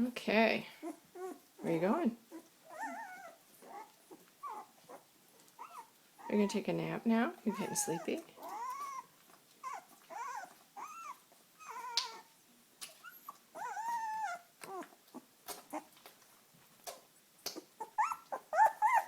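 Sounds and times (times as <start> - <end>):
puppy whimpering: 0.8 - 6.6, 7.4 - 12.3, 12.9 - 16.0, 17.6 - 19.0.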